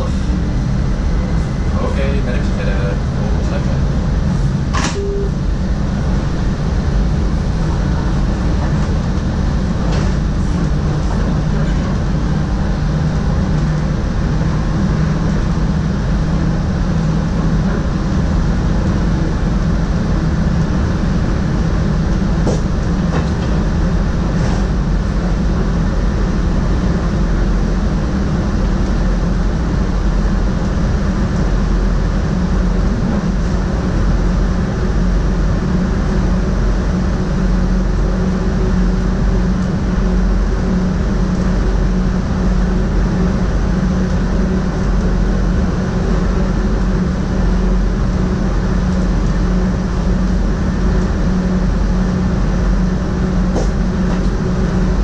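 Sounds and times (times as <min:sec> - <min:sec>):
steady low hum: 0:00.0 - 0:55.0
train rolling rumble: 0:00.0 - 0:55.0.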